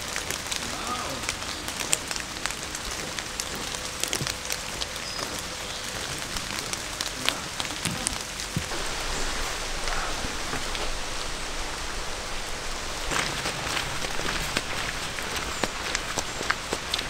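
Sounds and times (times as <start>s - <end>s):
raindrops tapping close by: 0.0s - 17.0s
steady rain falling: 0.0s - 17.0s.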